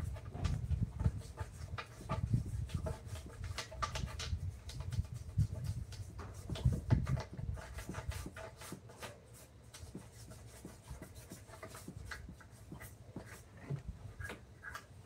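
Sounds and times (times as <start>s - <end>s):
scraping wood: 0.0s - 15.0s.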